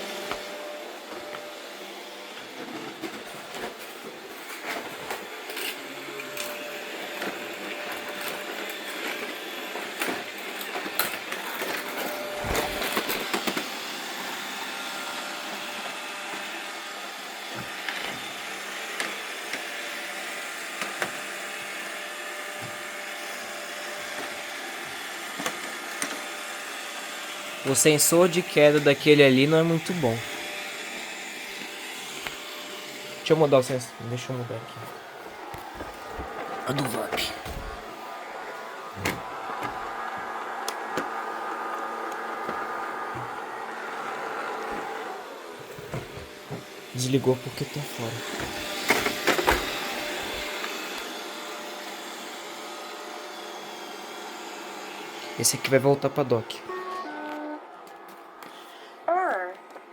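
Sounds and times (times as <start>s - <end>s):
robot vacuum whirring: 0.0s - 58.5s.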